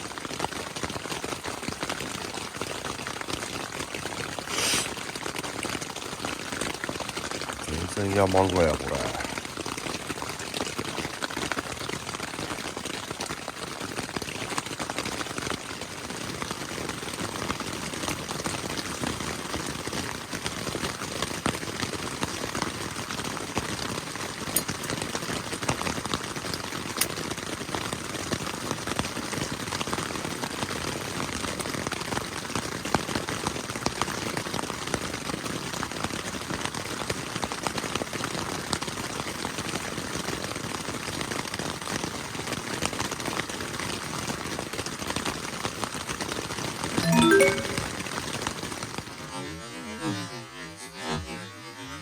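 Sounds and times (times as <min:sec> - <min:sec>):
steady rain falling: 0:00.0 - 0:47.5.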